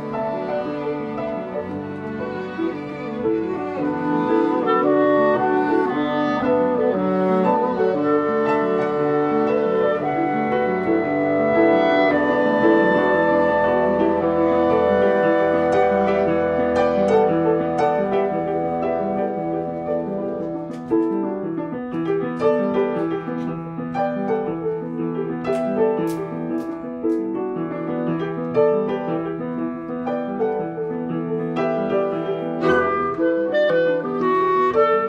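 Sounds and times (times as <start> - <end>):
chamber ensemble playing: 0.0 - 25.3, 27.2 - 35.0
clarinet: 0.0 - 35.0
upright piano playing: 0.0 - 35.0.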